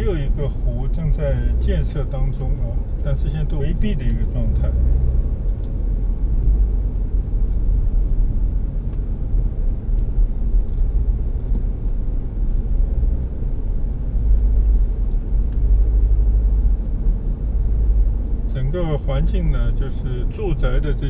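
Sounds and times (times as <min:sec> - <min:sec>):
car driving rumble inside cabin: 0:00.0 - 0:21.0.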